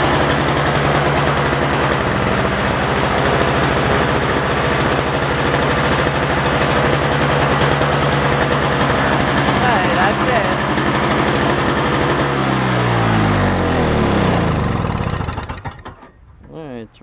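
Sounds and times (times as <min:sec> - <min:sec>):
snowblower engine running: 0:00.0 - 0:16.1.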